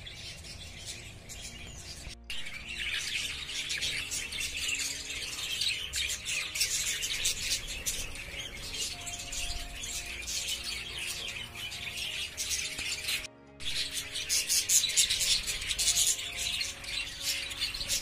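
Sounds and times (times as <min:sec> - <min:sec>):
budgerigars chirping and chattering: 0:00.0 - 0:18.0.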